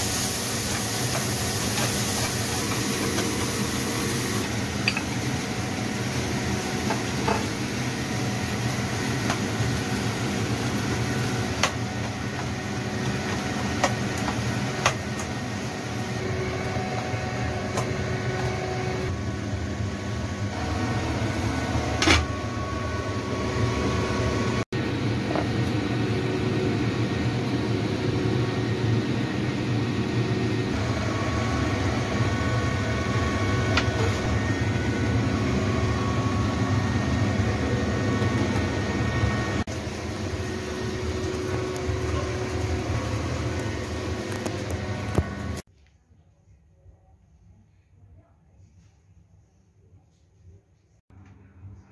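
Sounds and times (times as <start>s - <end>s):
mechanical hum: 0.0s - 51.9s.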